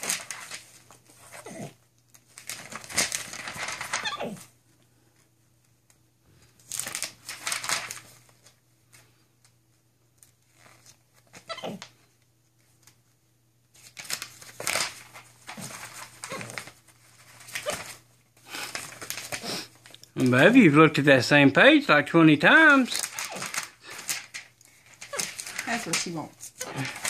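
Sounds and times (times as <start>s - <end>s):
glossy pages rustling: 0.0s - 4.5s, 5.2s - 11.8s, 12.6s - 21.2s, 22.4s - 27.0s.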